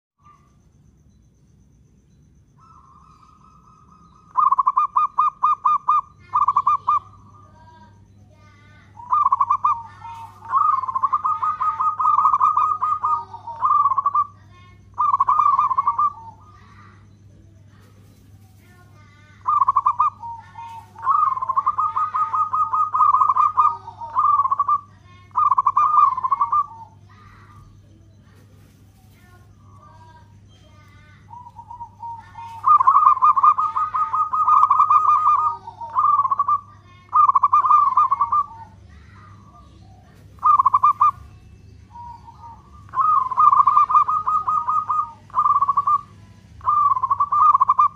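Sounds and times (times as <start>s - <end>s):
dove cooing: 2.5s - 47.9s.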